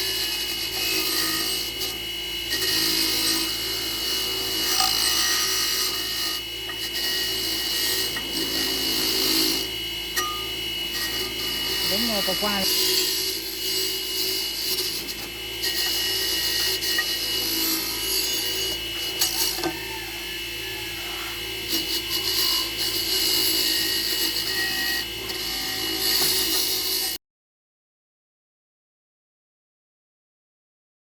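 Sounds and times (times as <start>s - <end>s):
tool scraping a surface: 0.0s - 27.2s.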